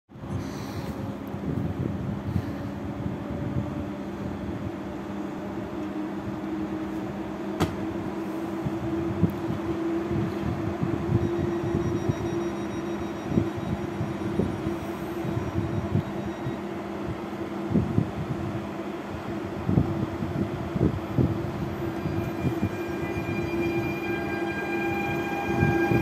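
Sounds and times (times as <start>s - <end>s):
train equipment humming: 0.1s - 26.0s.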